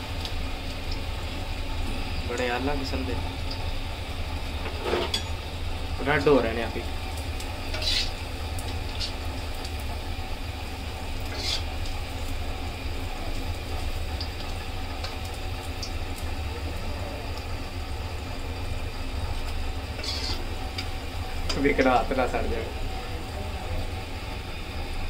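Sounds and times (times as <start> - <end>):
deep-frying sizzle with pops: 0.0 - 25.0.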